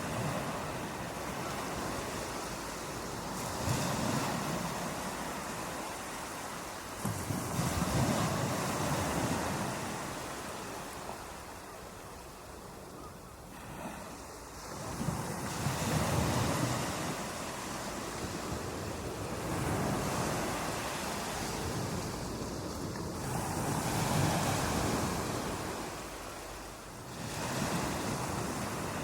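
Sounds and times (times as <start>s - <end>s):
ocean waves breaking on beach: 0.0s - 29.0s.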